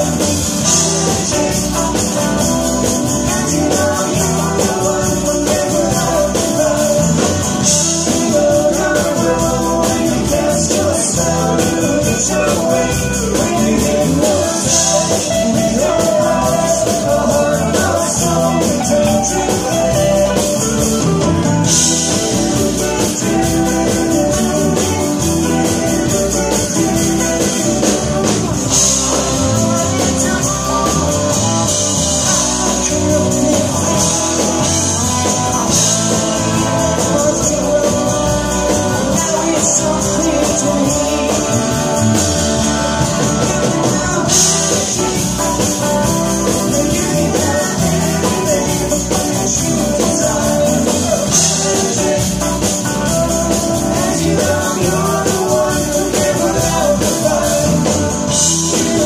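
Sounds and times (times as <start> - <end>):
live soft rock band: 0.0 - 59.0.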